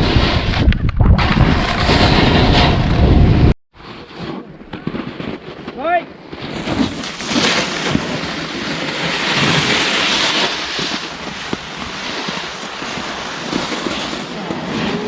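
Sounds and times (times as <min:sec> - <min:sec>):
snowboard sliding over snow: 0:00.0 - 0:15.0
wind on microphone: 0:00.0 - 0:15.0.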